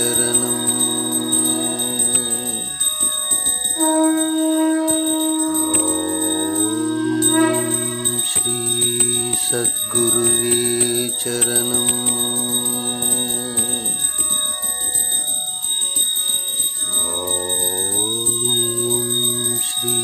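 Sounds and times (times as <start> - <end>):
bell ringing: 0.0 - 20.0
devotional melody with held notes: 0.0 - 20.0.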